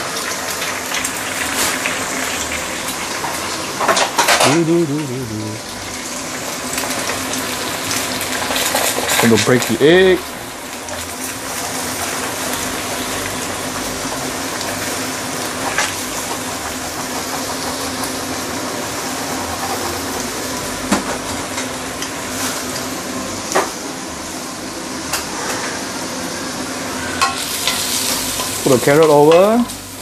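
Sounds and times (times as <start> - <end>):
eggs sizzling in hot oil: 0.0 - 30.0.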